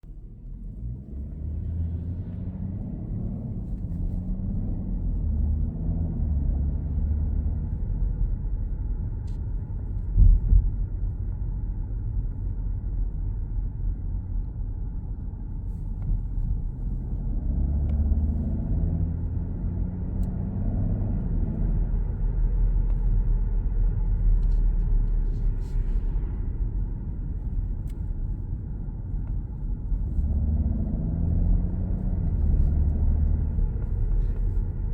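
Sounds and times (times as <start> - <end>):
car engine rumble accelerating: 0.0 - 34.9.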